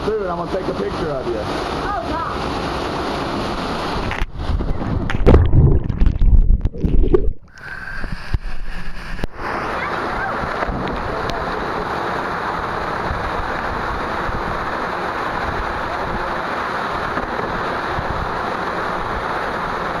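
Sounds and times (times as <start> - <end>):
waterfall splashing into pool: 0.0 - 20.0.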